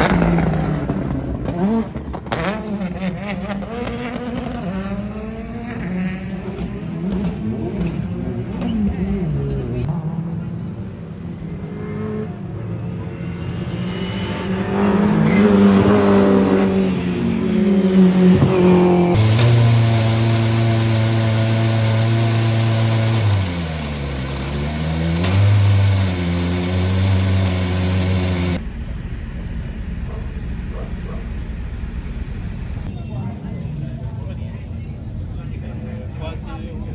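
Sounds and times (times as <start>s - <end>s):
rally car engines revving: 0.0s - 32.9s.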